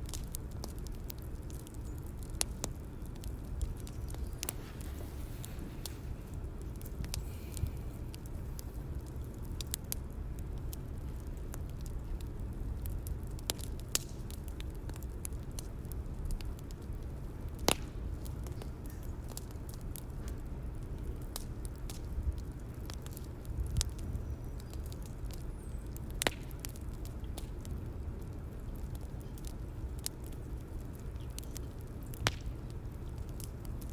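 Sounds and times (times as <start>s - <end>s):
bonfire crackling: 0.0s - 33.9s
sharp pops of burning wood: 0.0s - 33.9s.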